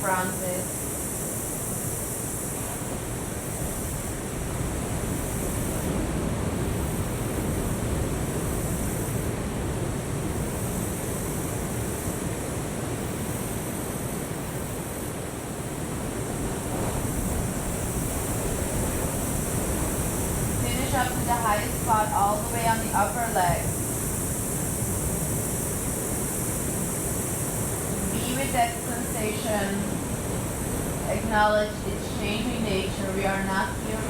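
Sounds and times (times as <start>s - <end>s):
ocean waves breaking: 2.5s - 34.0s.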